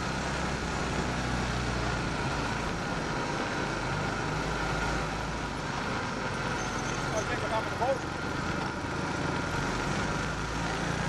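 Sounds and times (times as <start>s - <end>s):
buggy engine running low: 0.0s - 11.0s
road noise: 0.0s - 11.0s.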